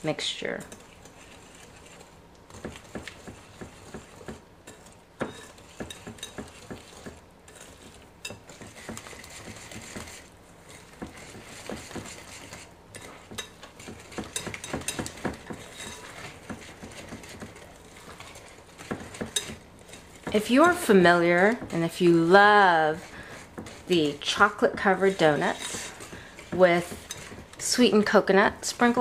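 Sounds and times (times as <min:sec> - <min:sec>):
whisk clicking against glass bowl: 0:02.5 - 0:10.2, 0:11.0 - 0:21.9, 0:23.0 - 0:27.7.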